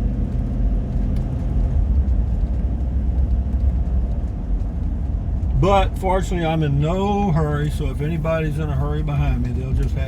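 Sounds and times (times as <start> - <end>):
road noise: 0.0 - 10.0
vehicle engine rumble: 0.0 - 10.0.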